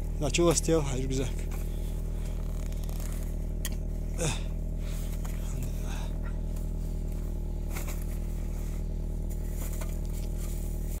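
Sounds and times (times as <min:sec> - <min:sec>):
car engine idling: 0:00.0 - 0:11.0
soft rustles: 0:01.3 - 0:04.1, 0:04.7 - 0:11.0.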